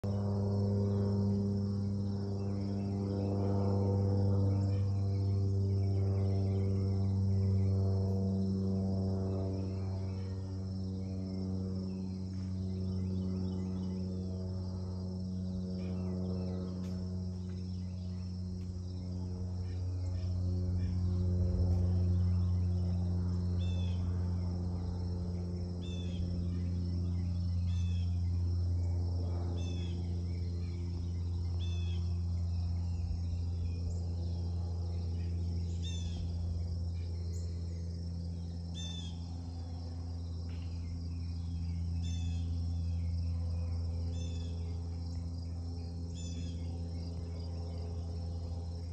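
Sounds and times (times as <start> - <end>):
propeller plane drone overhead: 0.0 - 48.9.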